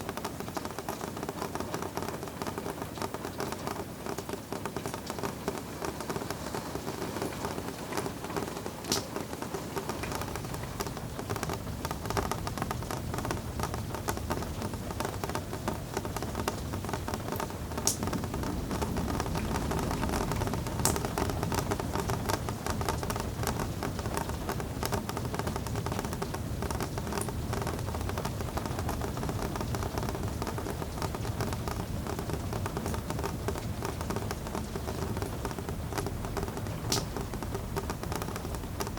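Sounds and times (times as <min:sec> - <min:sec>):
rain pattering on a window: 0:00.0 - 0:38.9.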